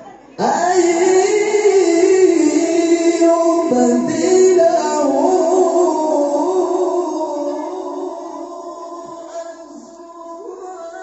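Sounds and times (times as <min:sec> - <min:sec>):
person chanting recitation: 0:00.4 - 0:11.0.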